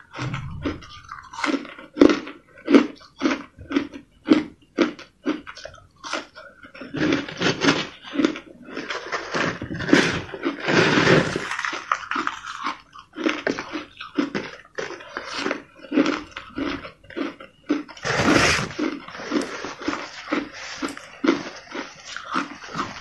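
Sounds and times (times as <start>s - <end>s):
ice crunching as chewed: 0.0s - 23.0s.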